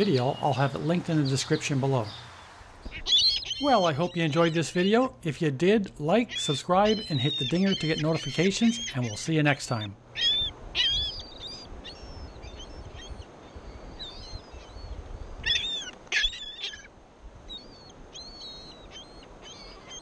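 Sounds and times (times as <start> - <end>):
gulls calling: 0.0 - 16.9, 17.5 - 20.0.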